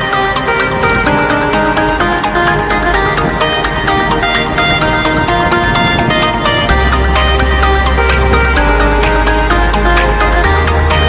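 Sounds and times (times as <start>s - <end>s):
deep bass: 0.0s - 11.0s
electronic dance music: 0.0s - 11.0s.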